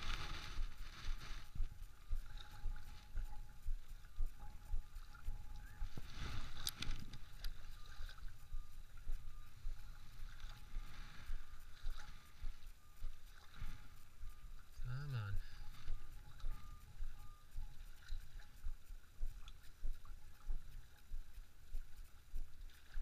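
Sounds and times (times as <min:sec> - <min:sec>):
water lapping on shore: 0:00.0 - 0:23.0
wind on microphone: 0:00.0 - 0:23.0.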